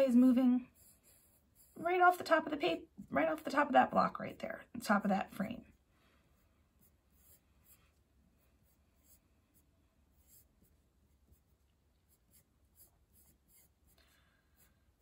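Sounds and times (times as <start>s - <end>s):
pencil scratching on paper: 0.0s - 4.4s, 5.6s - 15.0s.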